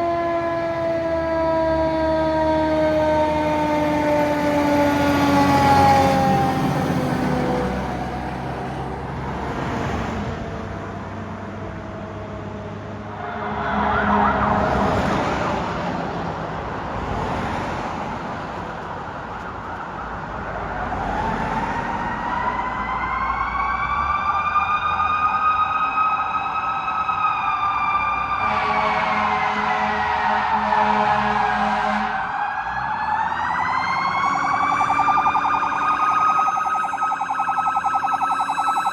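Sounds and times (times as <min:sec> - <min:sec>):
fire engine siren wailing: 0:00.0 - 0:17.9, 0:19.3 - 0:38.9
vehicle noise: 0:00.0 - 0:38.9.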